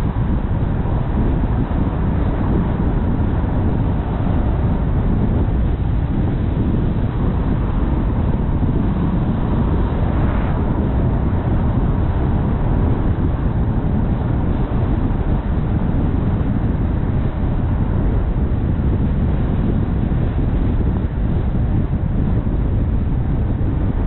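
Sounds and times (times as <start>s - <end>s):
tyre and road noise: 0.0s - 24.0s
wind buffeting microphone: 0.0s - 24.0s.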